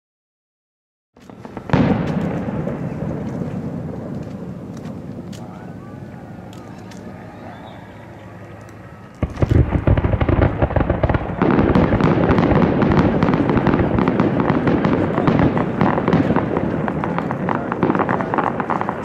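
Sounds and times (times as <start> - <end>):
firework fountain crackling: 1.2 - 19.0.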